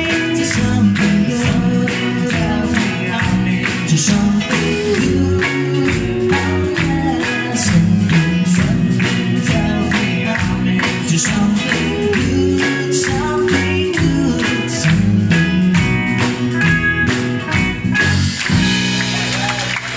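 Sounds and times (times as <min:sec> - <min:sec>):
beat band playing: 0:00.0 - 0:19.9.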